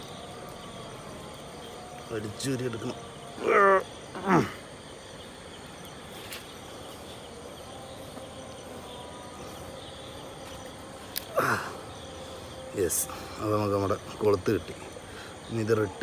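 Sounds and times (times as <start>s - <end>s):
crickets and insects chirring: 0.0s - 16.0s.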